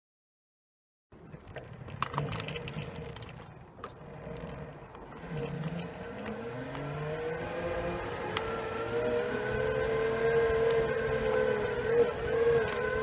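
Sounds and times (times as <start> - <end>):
electric motors whining: 2.0 - 13.0.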